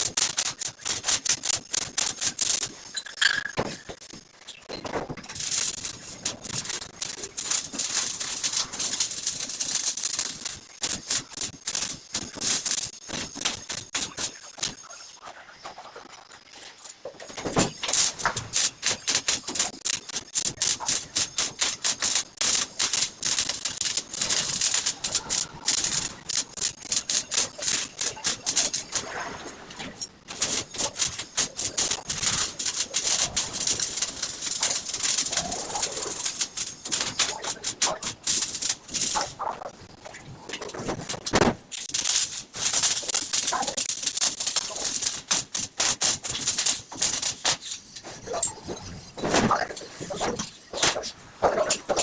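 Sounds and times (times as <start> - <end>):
electric arc welding crackle: 0.0 - 17.0, 17.6 - 29.2, 29.8 - 48.5.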